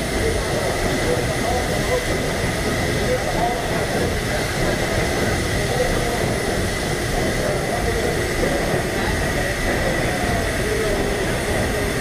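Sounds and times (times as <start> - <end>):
high machinery whine: 0.0 - 12.0
steam engine machinery rumble: 0.0 - 12.0.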